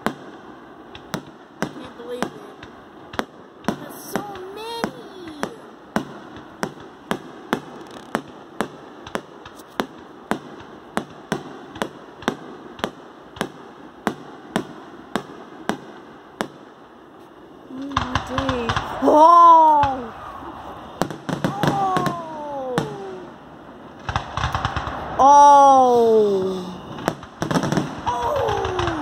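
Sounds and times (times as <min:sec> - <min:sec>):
fireworks popping: 0:00.0 - 0:25.3, 0:26.2 - 0:29.0.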